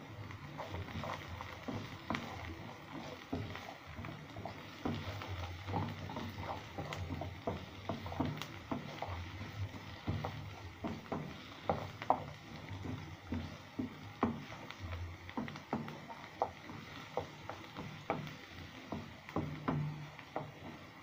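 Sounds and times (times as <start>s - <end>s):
spatula scraping frying pan: 0.0s - 20.8s.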